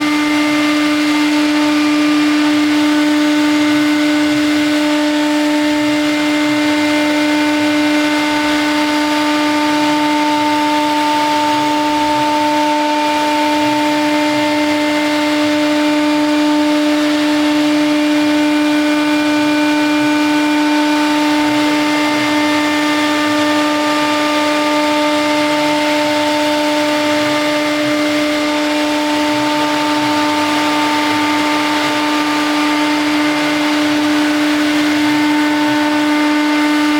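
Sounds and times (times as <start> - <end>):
router spindle whine: 0.0 - 36.9.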